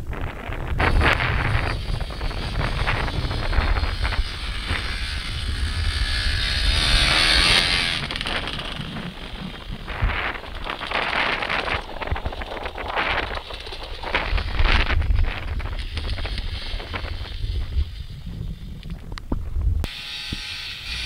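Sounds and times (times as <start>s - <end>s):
wind rumble on microphone: 0.0s - 21.0s
snow bike engine passing: 0.5s - 18.8s, 19.8s - 21.0s.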